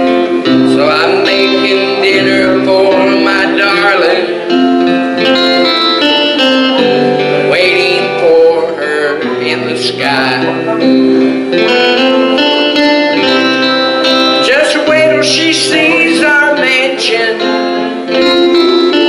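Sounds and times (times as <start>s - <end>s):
man singing into a microphone: 0.0s - 5.9s, 6.6s - 11.0s, 13.2s - 19.0s
backing track with guitar: 0.0s - 19.0s.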